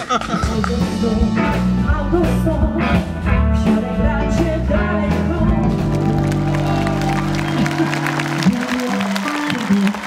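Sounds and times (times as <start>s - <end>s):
rock and roll band: 0.0s - 10.0s
person singing: 0.2s - 6.2s, 7.5s - 10.0s.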